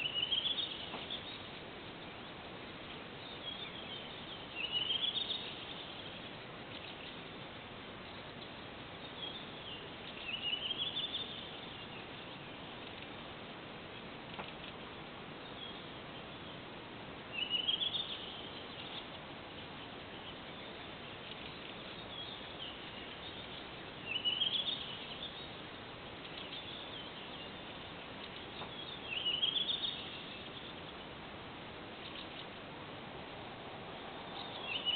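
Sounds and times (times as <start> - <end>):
songbird singing rising phrase: 0.0 - 2.4, 3.1 - 7.3, 8.1 - 13.2, 17.3 - 31.2, 31.9 - 34.9
steady background hiss: 0.0 - 34.9.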